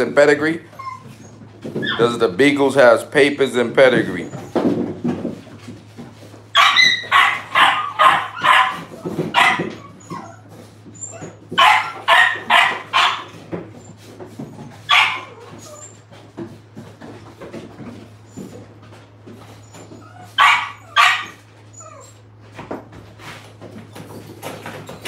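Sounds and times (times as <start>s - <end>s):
puppies barking and yipping: 0.2s - 2.8s, 3.8s - 25.0s.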